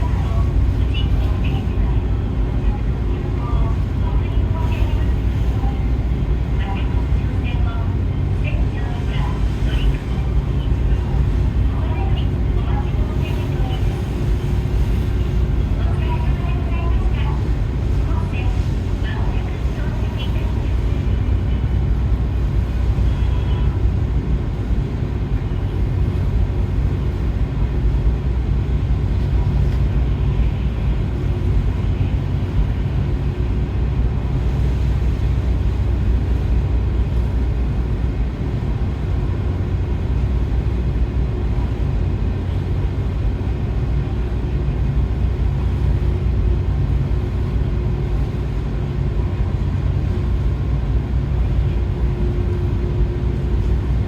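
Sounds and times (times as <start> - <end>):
faint steady hum tones: 0.0 - 54.0
ship engines rumbling: 0.0 - 54.0.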